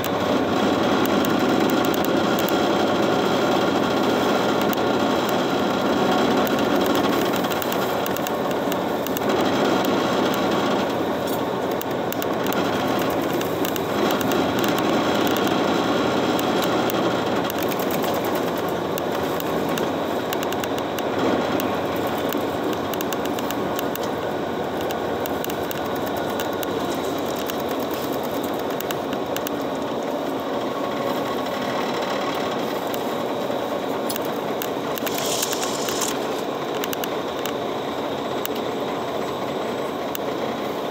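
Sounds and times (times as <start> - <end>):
bus engine and road noise: 0.0 - 40.9.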